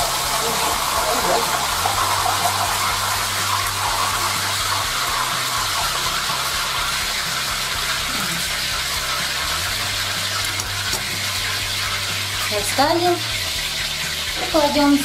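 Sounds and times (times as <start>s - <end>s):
hot oil sizzling in a pan: 0.0s - 15.0s.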